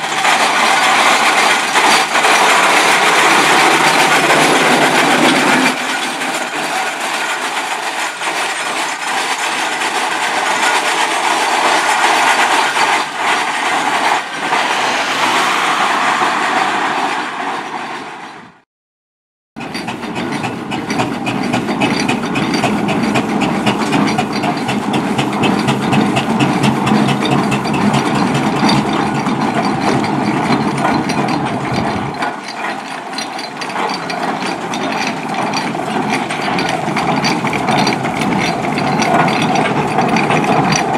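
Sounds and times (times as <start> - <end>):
rhythmic mechanical clatter: 0.0 - 18.6, 19.6 - 40.9
steam traction engine running: 0.0 - 18.6, 19.6 - 40.9.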